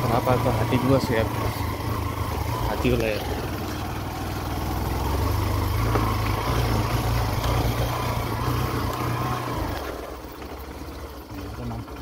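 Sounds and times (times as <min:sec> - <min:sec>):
motorbike engine running: 0:00.0 - 0:12.0.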